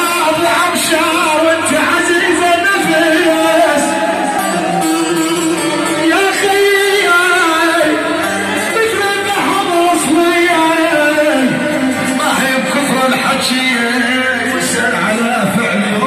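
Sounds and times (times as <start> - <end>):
keyboard accompaniment: 0.0 - 16.0
man singing through microphone: 0.0 - 16.0.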